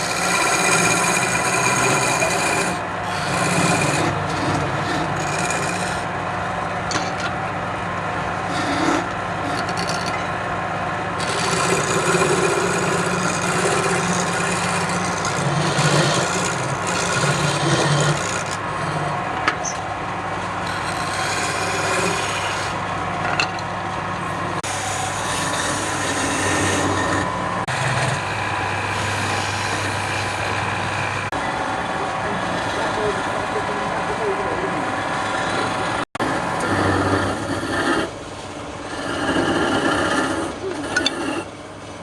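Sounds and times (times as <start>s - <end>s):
tool rasping on spinning wood: 0.0s - 6.1s, 8.4s - 10.2s, 11.2s - 19.4s, 20.5s - 22.8s, 24.6s - 31.4s, 32.1s - 38.2s, 38.8s - 41.5s
wood lathe motor hum: 0.0s - 10.2s, 11.1s - 38.1s, 38.8s - 41.4s.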